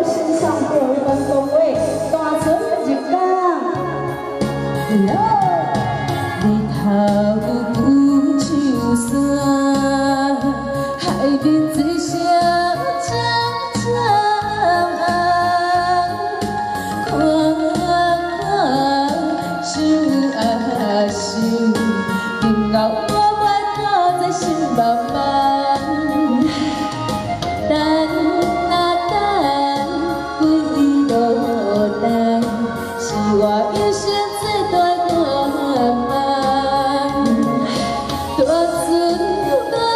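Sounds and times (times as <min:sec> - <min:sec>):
accompanying pop music: 0:00.0 - 0:39.9
woman singing into microphone: 0:00.0 - 0:39.9.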